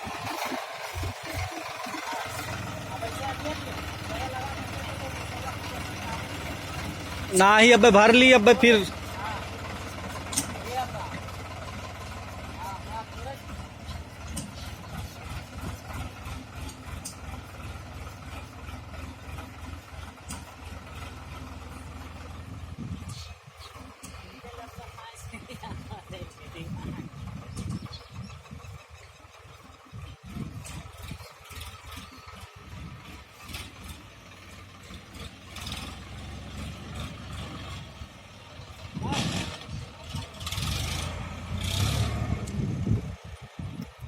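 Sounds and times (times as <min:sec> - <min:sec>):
tractor diesel engine chugging: 0:00.0 - 0:44.0.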